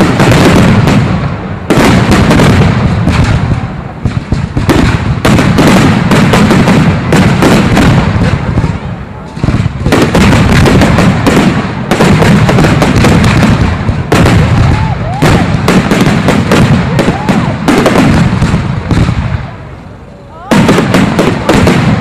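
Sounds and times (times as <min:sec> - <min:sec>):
firework shells bursting: 0:00.0 - 0:19.4.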